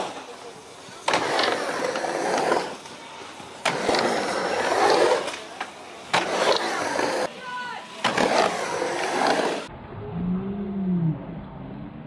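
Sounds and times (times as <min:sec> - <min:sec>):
skateboard wheels rolling on ramp: 0:00.0 - 0:09.7.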